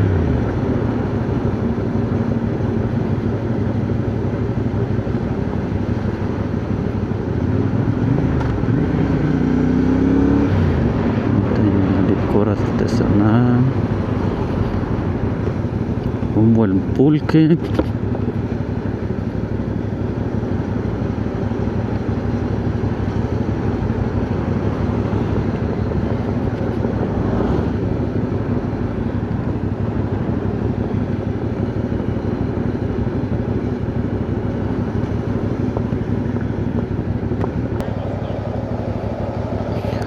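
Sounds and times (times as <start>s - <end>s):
motorcycle engine running: 0.0s - 40.0s
road noise: 0.0s - 40.0s.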